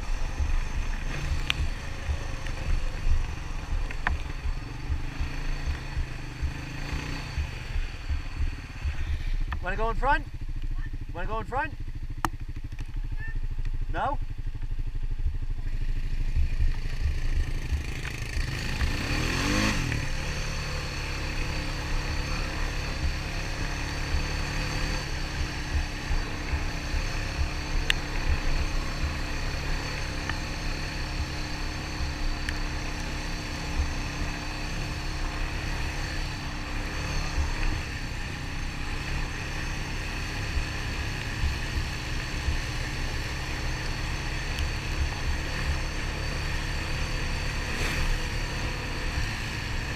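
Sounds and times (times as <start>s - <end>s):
quad bike engine running: 0.0s - 49.9s.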